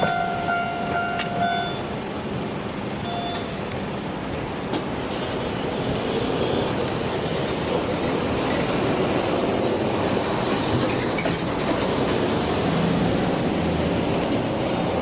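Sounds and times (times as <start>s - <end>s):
diesel locomotive engine: 0.0s - 15.0s
train wheels on rail: 0.0s - 15.0s.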